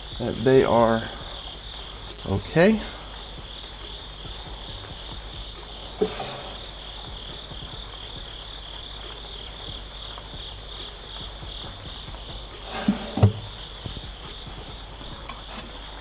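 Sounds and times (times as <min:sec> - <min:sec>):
insect chorus chirring: 0:00.0 - 0:16.0.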